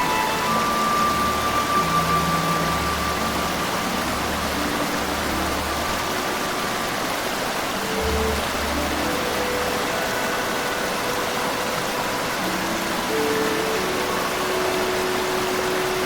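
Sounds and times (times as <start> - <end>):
soft background music: 0.0 - 16.0
steady rushing noise: 0.0 - 16.0.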